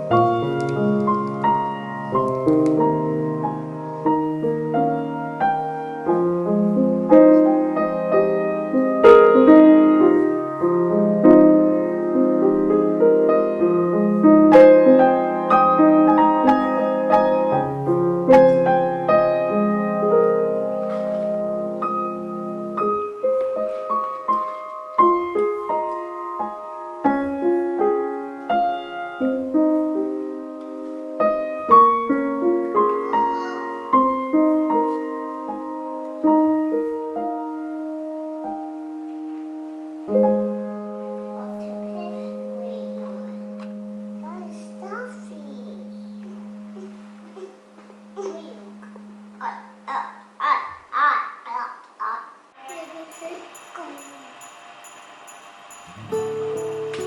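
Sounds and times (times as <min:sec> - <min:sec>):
solo piano music: 0:00.0 - 0:49.9, 0:52.6 - 0:57.0.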